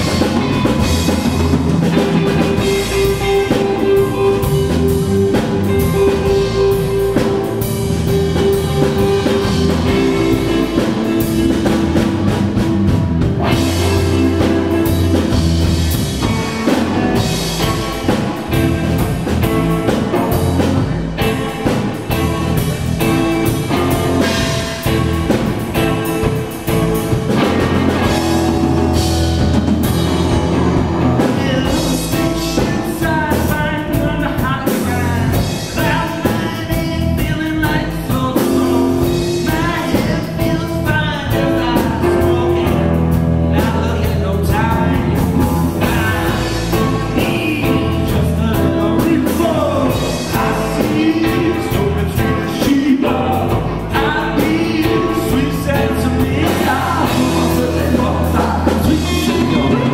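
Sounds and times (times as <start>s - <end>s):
distorted electric guitar: 0.0s - 59.9s
drum kit: 0.0s - 59.9s
electric bass: 0.0s - 59.9s.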